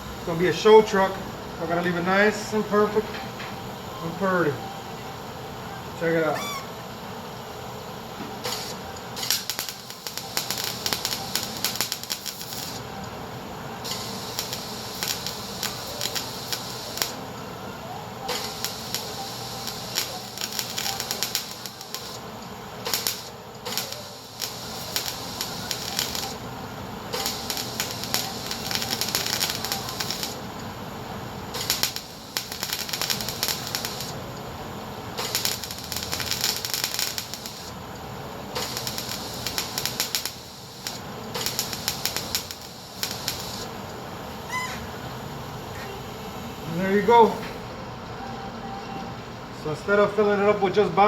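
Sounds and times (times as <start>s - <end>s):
welder crackling: 0.0s - 45.7s, 46.5s - 47.6s.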